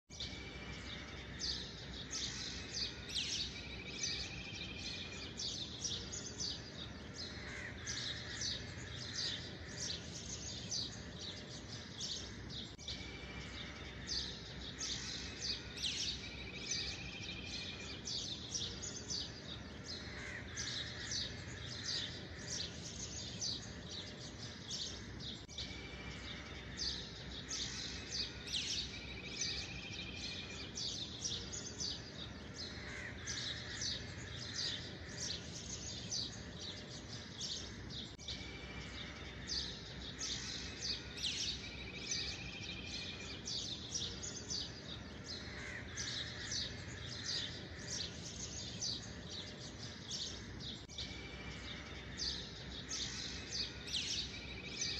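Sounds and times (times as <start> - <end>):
bird trill: 0.1 - 54.9
small birds chirping: 0.1 - 54.9.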